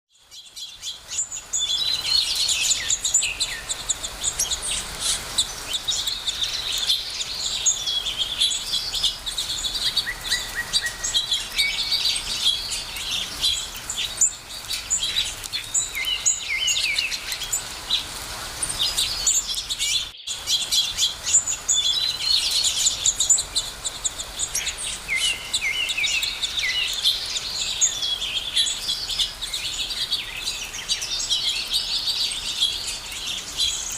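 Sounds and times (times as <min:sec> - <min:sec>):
birds chirping and singing: 0:00.2 - 0:33.9.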